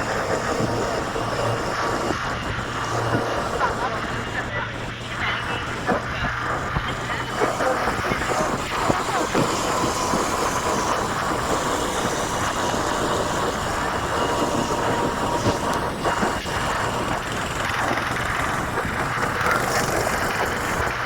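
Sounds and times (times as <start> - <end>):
moving vehicle running noise: 0.0 - 21.0.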